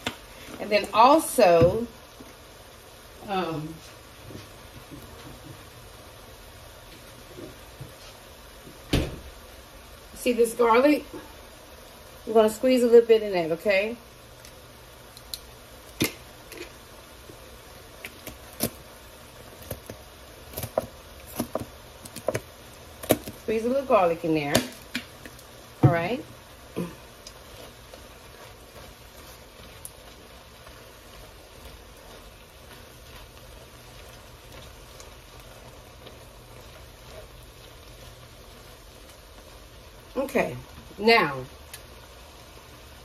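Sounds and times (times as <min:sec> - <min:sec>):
faint steady hiss: 0:00.0 - 0:43.0
food sizzling in skillet: 0:00.0 - 0:43.0.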